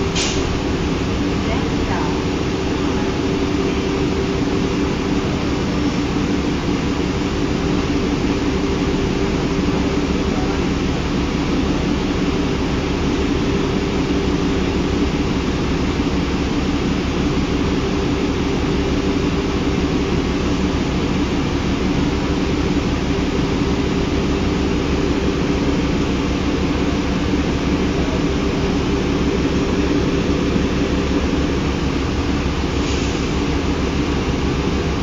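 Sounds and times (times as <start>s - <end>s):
diesel bus engine running: 0.0s - 35.0s.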